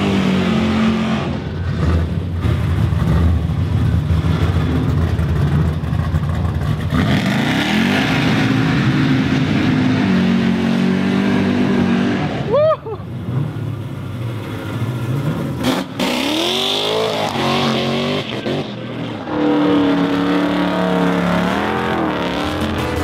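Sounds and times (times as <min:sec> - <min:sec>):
car engine revving: 0:00.0 - 0:12.5, 0:13.2 - 0:23.0.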